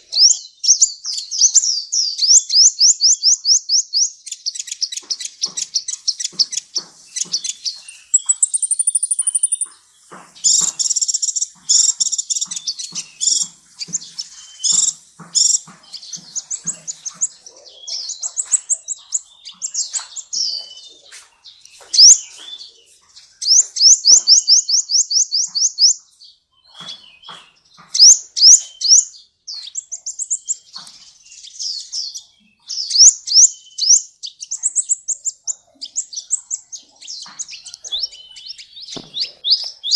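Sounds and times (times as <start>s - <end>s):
sunbird chirping and trilling: 0.0s - 39.9s.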